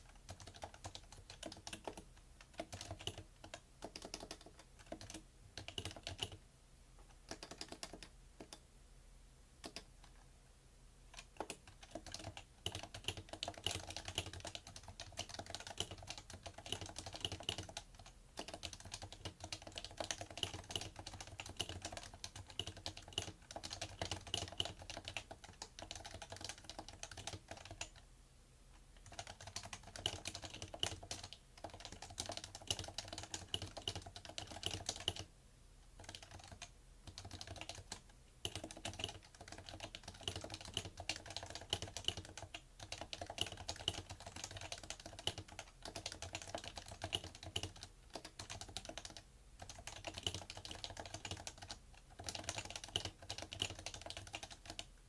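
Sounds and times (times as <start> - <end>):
fast keyboard typing: 0.1 - 6.4, 7.3 - 8.6, 11.1 - 28.0, 29.0 - 35.3, 36.0 - 54.9.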